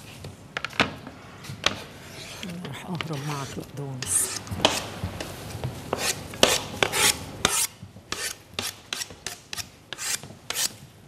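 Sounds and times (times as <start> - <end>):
knife scraping cutting board: 1.7 - 10.7.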